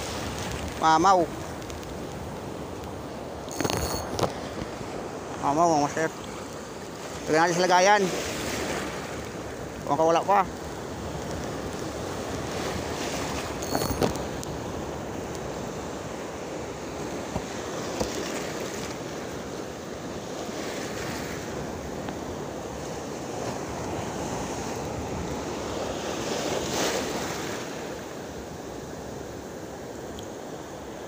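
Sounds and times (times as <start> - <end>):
sea waves splashing around boat: 0.0 - 31.0.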